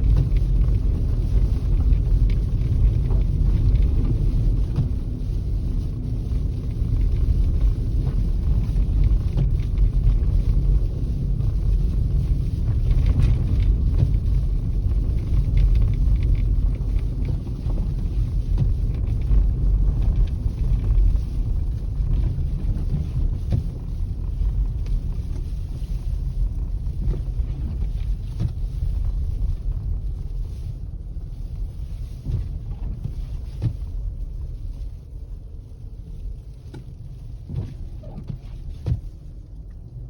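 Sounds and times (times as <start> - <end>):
wind buffeting microphone: 0.0 - 36.2.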